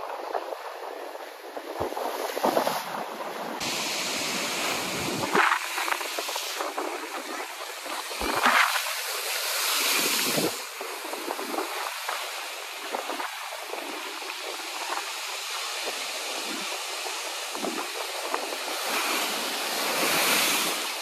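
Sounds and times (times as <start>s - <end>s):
sea waves breaking on shore: 0.0s - 21.0s.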